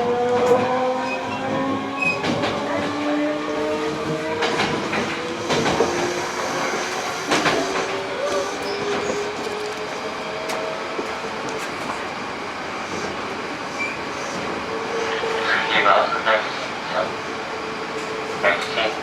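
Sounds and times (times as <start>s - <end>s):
train inverter whining: 0.0s - 19.0s.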